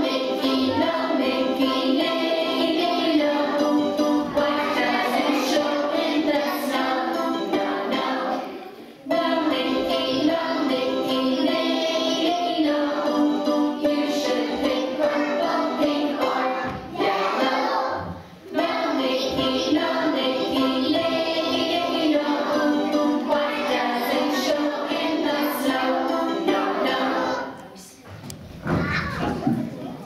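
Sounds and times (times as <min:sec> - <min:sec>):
musical accompaniment: 0:00.0 - 0:27.6
young children singing: 0:00.0 - 0:27.8.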